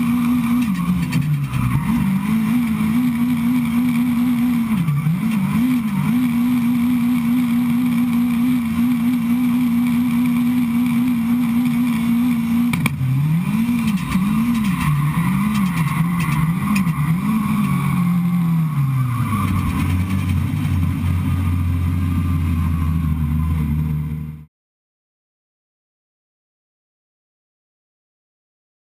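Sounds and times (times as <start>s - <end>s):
car engine revving: 0.0s - 24.5s.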